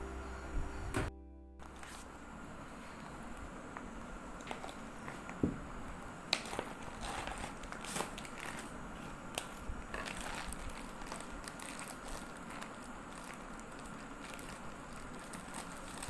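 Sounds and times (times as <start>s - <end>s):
crinkling and crackling: 0.7s - 16.0s.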